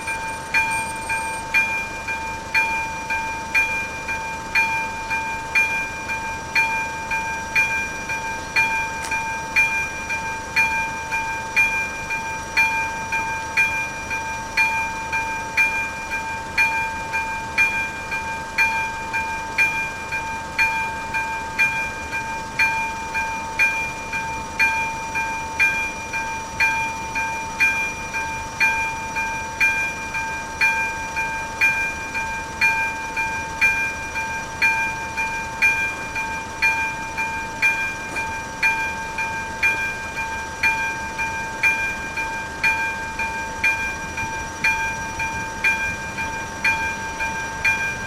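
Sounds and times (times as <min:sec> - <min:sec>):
level crossing bell ringing: 0:00.0 - 0:48.0
steady ringing tone: 0:00.0 - 0:48.0.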